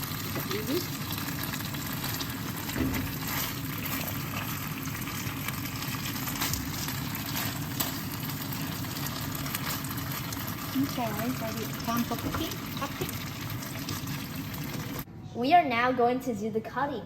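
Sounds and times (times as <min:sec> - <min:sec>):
chicken sizzling in a pan: 0:00.0 - 0:15.1.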